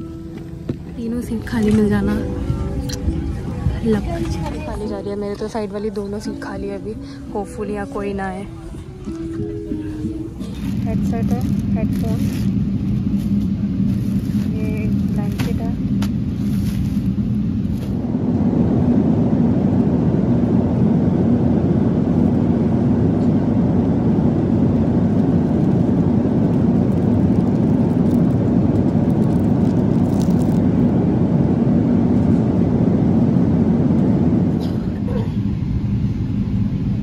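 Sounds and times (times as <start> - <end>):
airliner cabin rumble and hum: 0.0 - 37.0.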